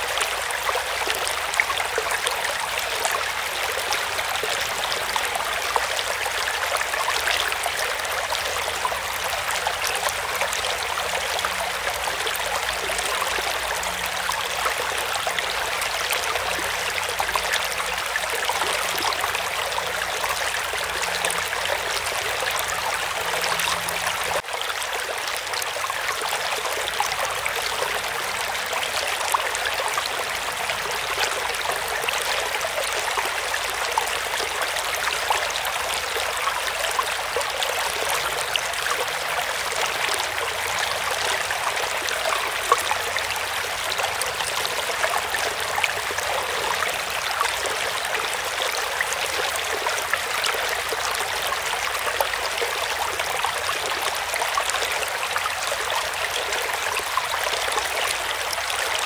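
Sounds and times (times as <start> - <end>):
creek water rushing: 0.0 - 59.0
small splashes and trickles: 0.0 - 59.0.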